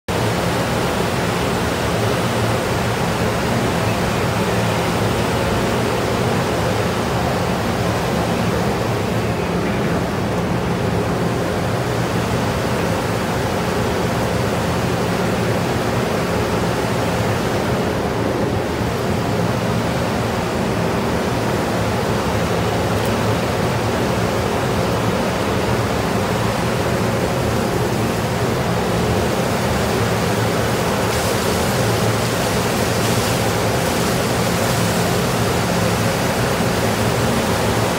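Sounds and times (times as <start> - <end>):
low machinery hum: 0.1 - 37.9.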